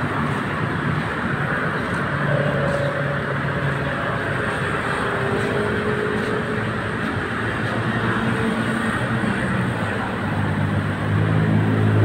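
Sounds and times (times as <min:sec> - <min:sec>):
vehicle traffic rumbling: 0:00.0 - 0:12.0.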